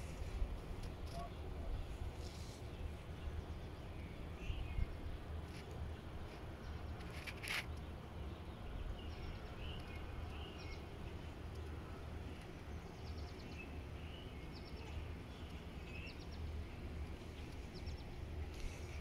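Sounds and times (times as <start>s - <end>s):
small birds chirping: 1.1s - 19.0s.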